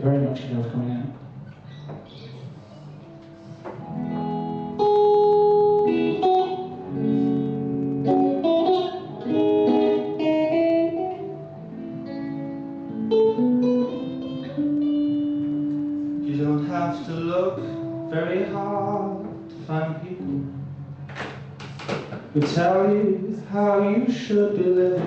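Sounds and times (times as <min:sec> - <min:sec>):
guitar notes and chords: 0:02.9 - 0:25.0.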